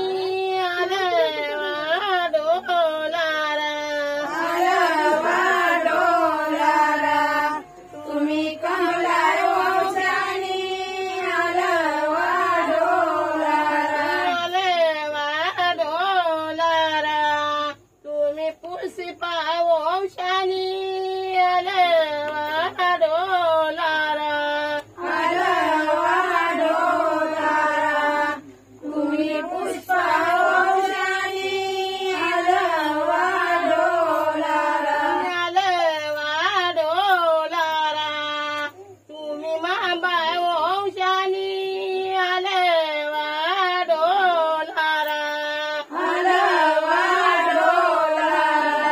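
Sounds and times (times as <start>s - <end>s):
women singing together: 0.0s - 48.9s.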